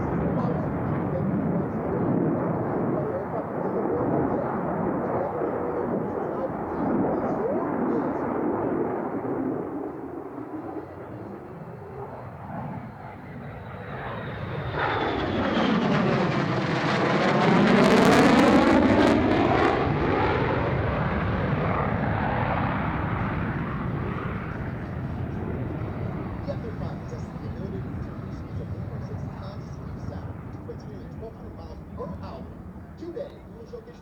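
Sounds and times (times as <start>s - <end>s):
jet aircraft passing: 0.0s - 34.0s.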